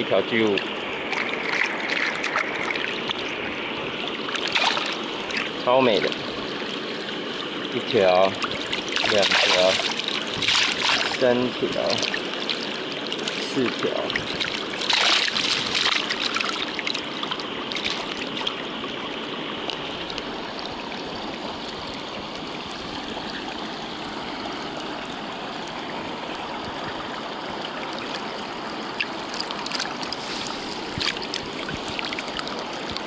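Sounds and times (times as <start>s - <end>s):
stream water rushing: 0.0s - 33.0s
water splashing: 0.0s - 33.0s.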